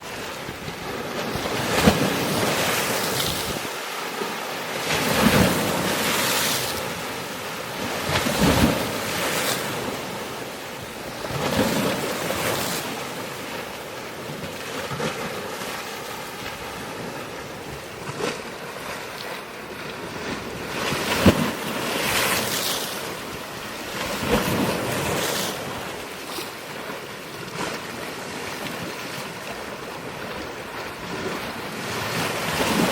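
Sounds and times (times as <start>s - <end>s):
sea waves breaking: 0.0s - 32.9s.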